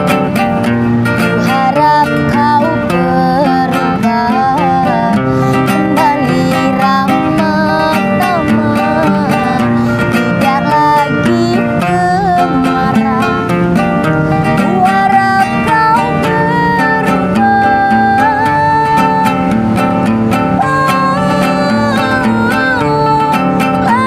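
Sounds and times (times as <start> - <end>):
acoustic guitar strumming: 0.0 - 24.0
sliding melody: 0.0 - 24.0.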